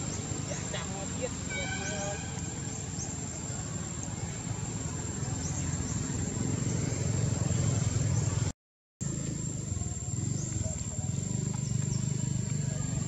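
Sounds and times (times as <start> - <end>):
distant traffic rumble: 0.0 - 13.0
high insect whine: 0.0 - 13.0.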